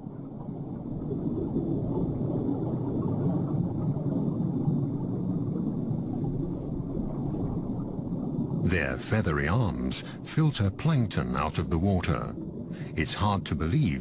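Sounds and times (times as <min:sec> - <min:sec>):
underwater rumble of seawater: 0:00.0 - 0:14.0.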